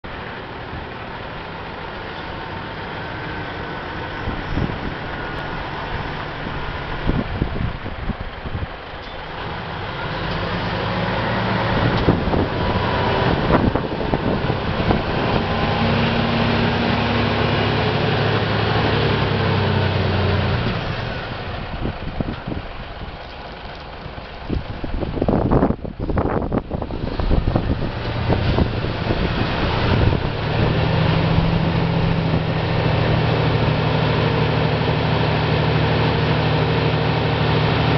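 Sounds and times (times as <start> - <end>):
diesel truck engine running: 0.0 - 37.9.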